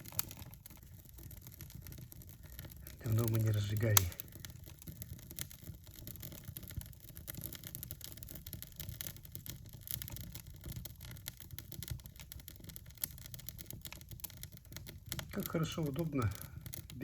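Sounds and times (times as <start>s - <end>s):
kindling fire crackling: 0.0s - 17.0s.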